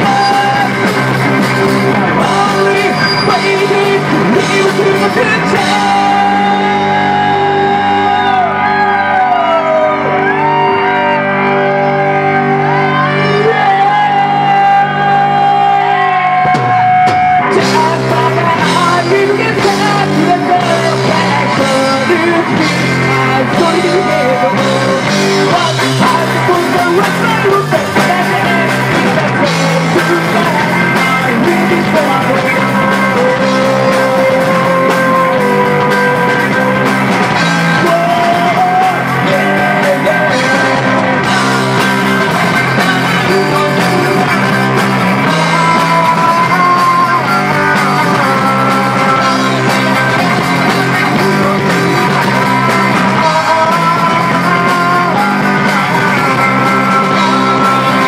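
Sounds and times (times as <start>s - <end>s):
man singing into microphone: 0.0s - 1.1s, 1.8s - 58.0s
bass guitar: 0.0s - 58.0s
drum kit: 0.0s - 58.0s
electric guitar: 0.0s - 58.0s.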